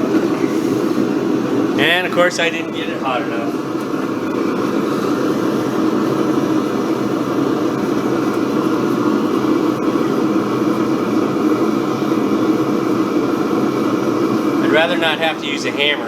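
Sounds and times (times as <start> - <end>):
torch flame roaring: 0.0 - 16.0.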